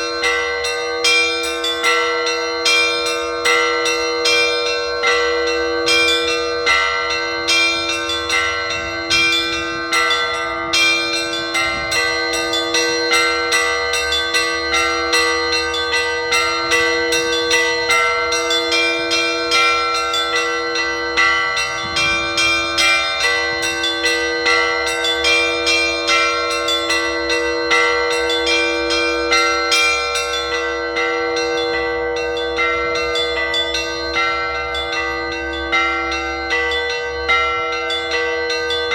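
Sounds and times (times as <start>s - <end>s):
deep bell hum: 0.0s - 38.9s
small church bells ringing quickly: 0.0s - 38.9s.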